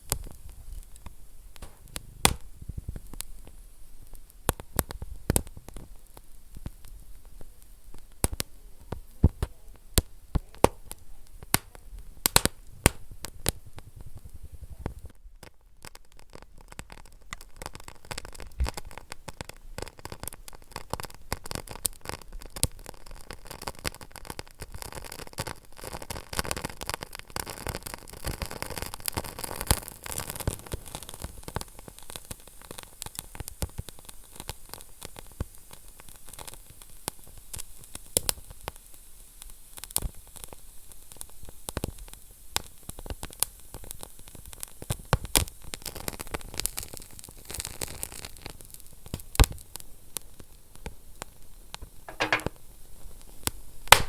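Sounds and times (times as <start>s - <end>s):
sharp pops from fire: 0.0s - 49.8s, 50.4s - 54.0s
wood fire crackling: 0.0s - 54.0s.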